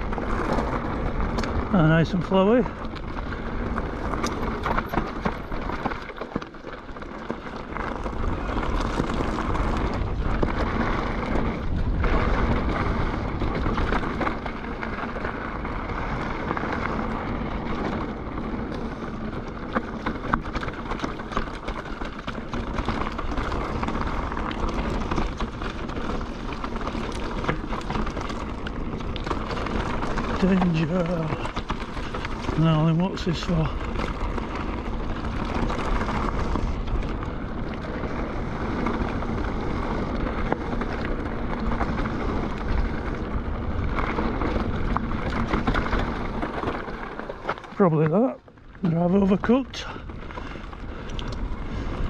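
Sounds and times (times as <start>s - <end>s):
bike rattling: 0.0s - 52.0s
tyres rolling over gravel: 0.0s - 52.0s.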